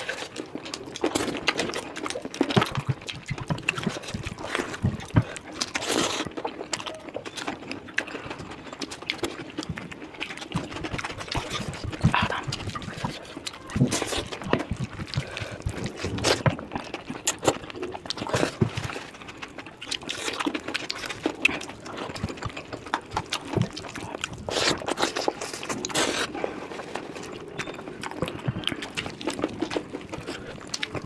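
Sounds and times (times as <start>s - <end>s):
wet chewing and smacking: 0.0s - 31.0s.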